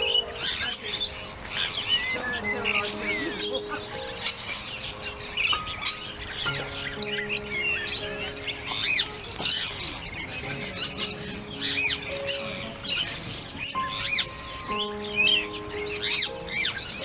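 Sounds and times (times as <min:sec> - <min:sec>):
high bird chirps: 0:00.0 - 0:17.0
music with held notes: 0:00.0 - 0:17.0.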